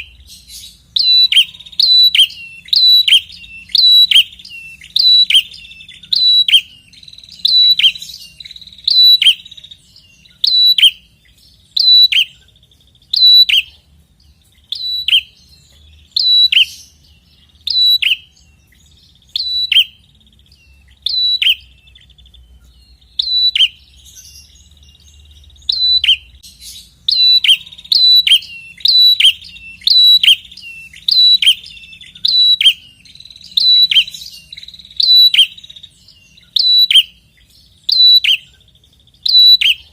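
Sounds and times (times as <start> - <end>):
bird chipping calls: 0.0 - 13.8, 14.6 - 39.9.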